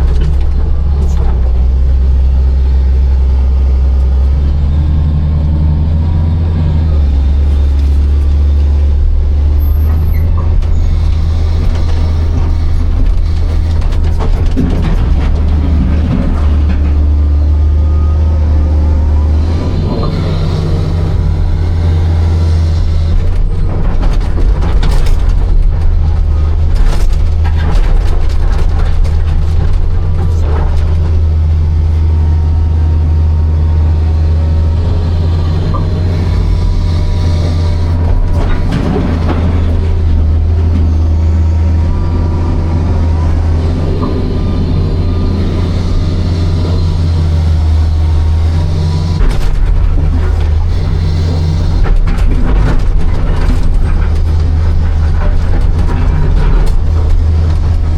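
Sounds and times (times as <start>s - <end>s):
excavator diesel engine running: 0.0s - 57.9s
hydraulic whine: 0.0s - 57.9s.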